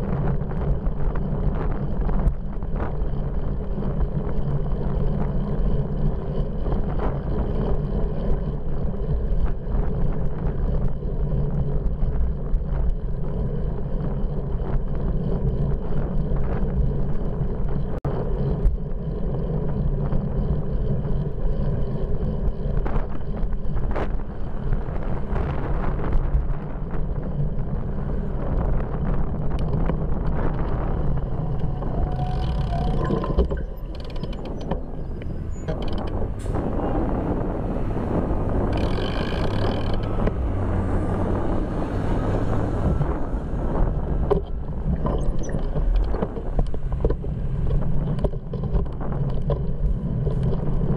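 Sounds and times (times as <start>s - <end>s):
bicycle road rumble: 0.0s - 50.9s
wind rushing over microphone: 0.0s - 50.9s.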